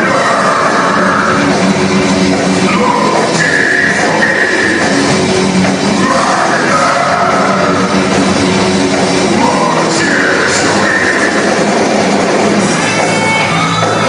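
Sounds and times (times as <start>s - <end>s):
death metal band playing: 0.0s - 14.0s.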